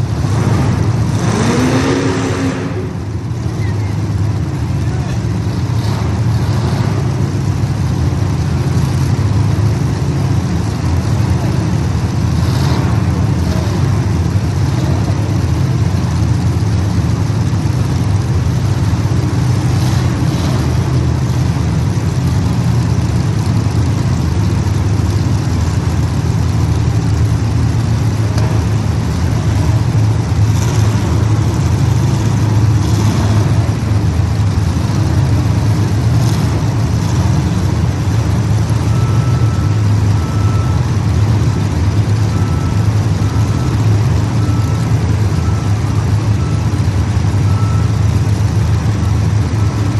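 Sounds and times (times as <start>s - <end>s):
racing engines droning: 0.0s - 49.9s.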